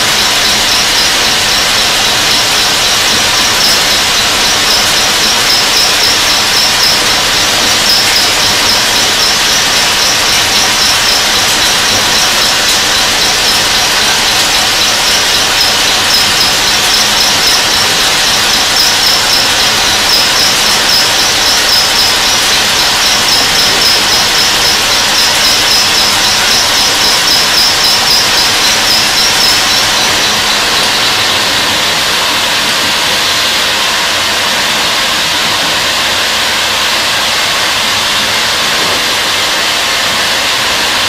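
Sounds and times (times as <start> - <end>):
machine cutting metal thread: 0.0 - 41.0.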